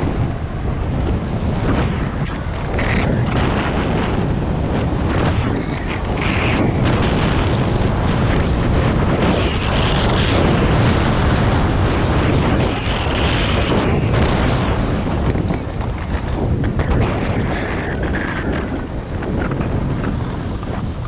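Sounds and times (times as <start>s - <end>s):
skis scraping over snow: 0.0s - 21.0s
wind rushing over microphone: 0.0s - 21.0s.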